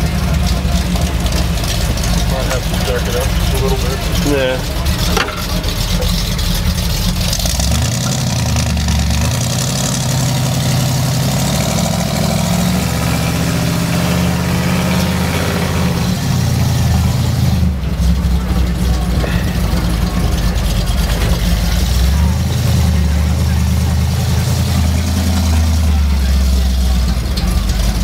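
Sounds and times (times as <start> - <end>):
truck engine driving: 0.0 - 28.0.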